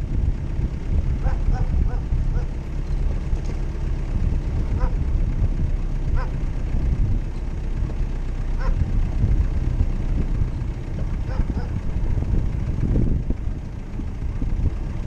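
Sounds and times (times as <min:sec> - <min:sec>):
vehicle engine low rumble: 0:00.0 - 0:15.0.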